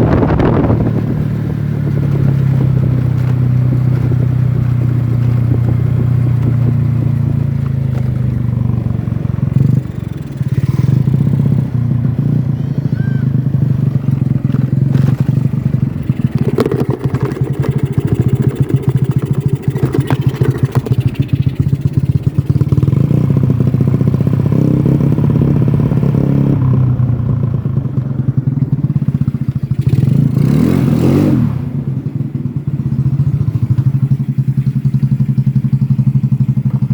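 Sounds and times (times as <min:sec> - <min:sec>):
scooter engine idling and revving: 0:00.0 - 0:36.9.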